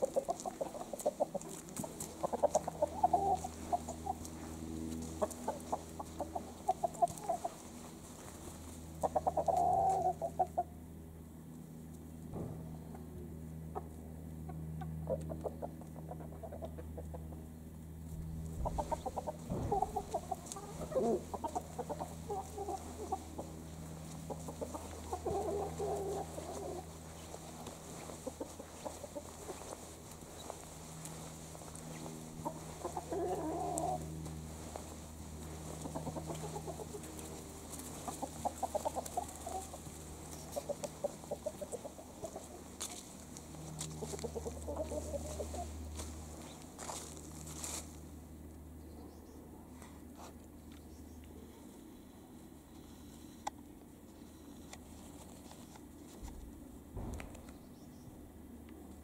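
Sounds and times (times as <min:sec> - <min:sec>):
chickens clucking: 0:00.0 - 0:51.8
steady low hum: 0:00.0 - 0:59.0.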